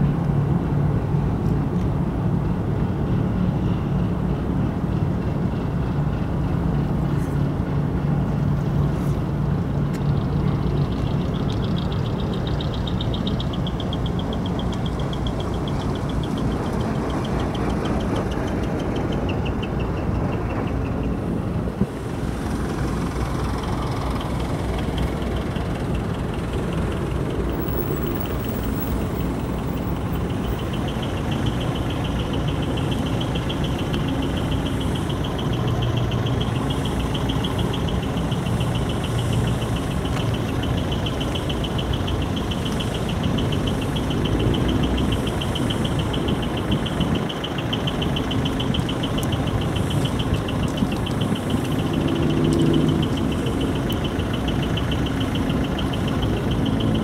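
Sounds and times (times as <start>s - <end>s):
low ship engine rumble: 0.0s - 56.4s.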